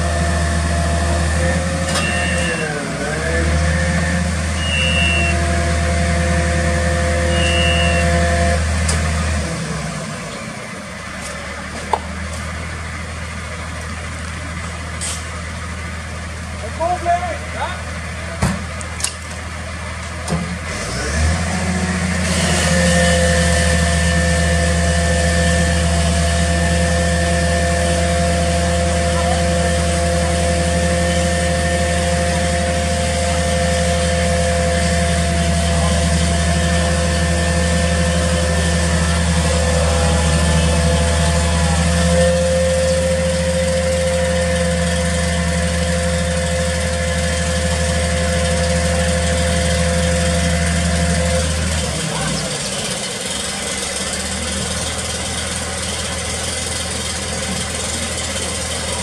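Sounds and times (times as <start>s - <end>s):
multi-tone hydraulic whine: 0.0s - 10.9s, 22.2s - 59.0s
fire truck engine revving: 0.0s - 16.8s, 17.5s - 59.0s.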